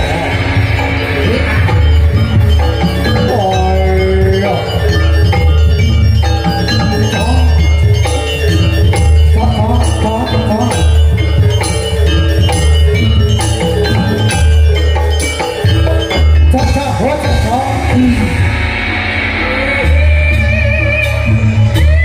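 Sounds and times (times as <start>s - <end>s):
heavy drum beat: 0.0s - 22.0s
metal mallet instruments ringing: 0.0s - 22.0s
wavering melody line: 0.0s - 22.0s.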